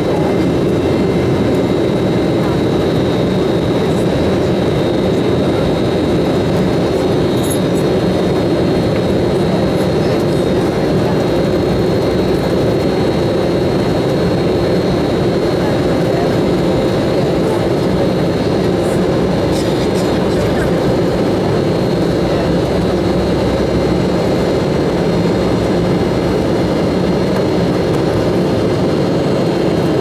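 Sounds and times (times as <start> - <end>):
airliner cabin rumble: 0.0 - 30.0
high jet engine whine: 0.0 - 30.0.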